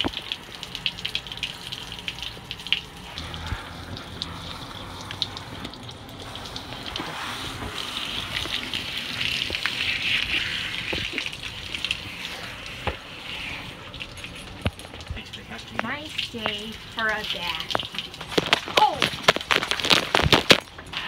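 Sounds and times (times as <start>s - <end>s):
hose nozzle spraying water: 0.0s - 20.8s.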